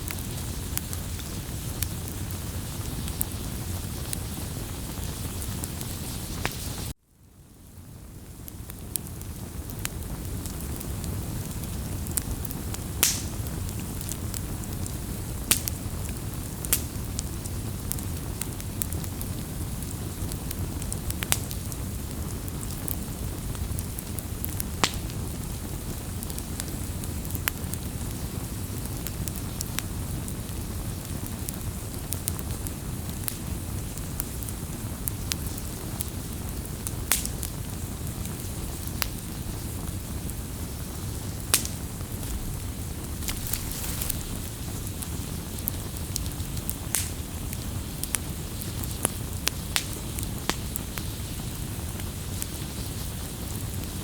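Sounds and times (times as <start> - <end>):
campfire flame rushing: 0.0 - 7.0, 7.6 - 54.0
burning wood crackling and popping: 0.0 - 54.0.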